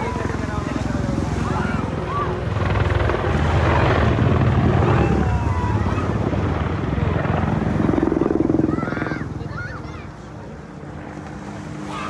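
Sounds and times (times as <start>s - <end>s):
helicopter engine noise: 0.0s - 12.0s
helicopter rotor chopping: 0.0s - 12.0s.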